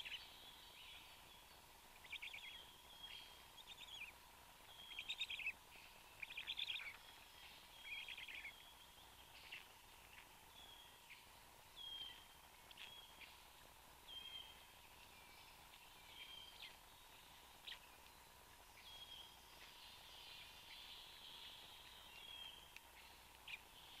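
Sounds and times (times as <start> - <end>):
faint steady tone: 0.0 - 24.0.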